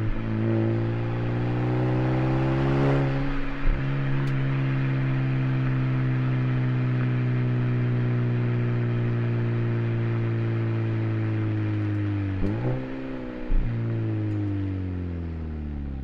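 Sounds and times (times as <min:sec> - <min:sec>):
car engine droning steadily: 0:00.0 - 0:16.0.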